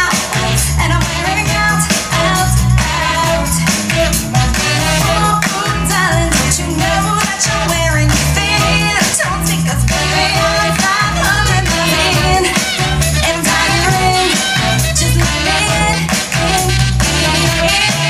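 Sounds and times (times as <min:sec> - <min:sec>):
pop song with vocals: 0:00.0 - 0:18.0.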